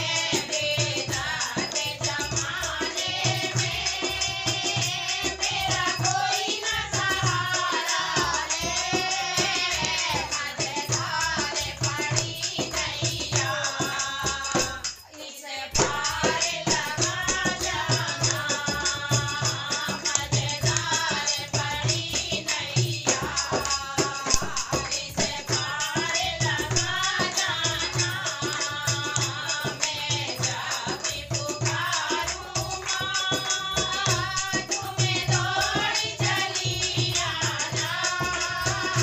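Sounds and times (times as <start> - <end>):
hand drums: 0.0 - 15.1, 15.7 - 39.0
shaker: 0.0 - 39.0.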